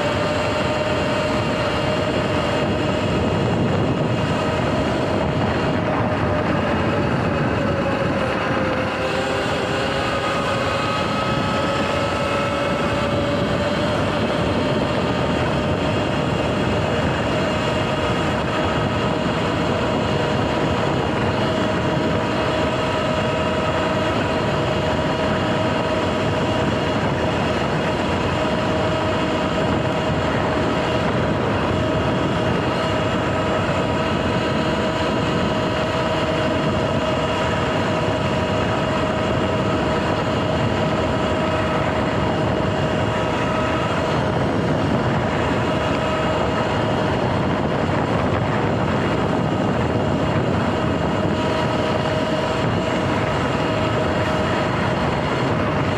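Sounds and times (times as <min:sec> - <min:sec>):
electric motor whine: 0:00.0 - 0:55.9
wind and tyre noise: 0:00.0 - 0:55.9.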